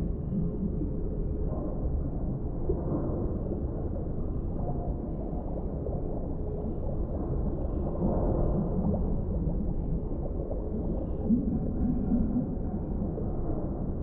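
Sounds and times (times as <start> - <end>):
muffled low underwater rumble: 0.0 - 14.0.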